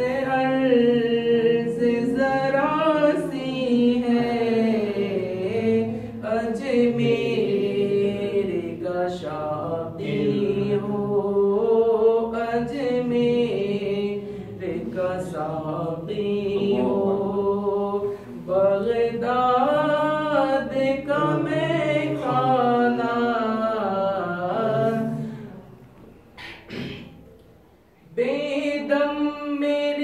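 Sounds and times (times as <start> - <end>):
man singing unaccompanied: 0.0 - 25.3, 28.0 - 30.0.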